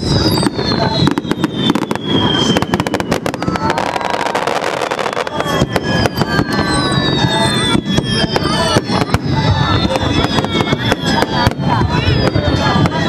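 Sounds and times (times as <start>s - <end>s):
firework whistles gliding down: 0.0s - 13.0s
fireworks exploding and crackling: 0.0s - 13.0s.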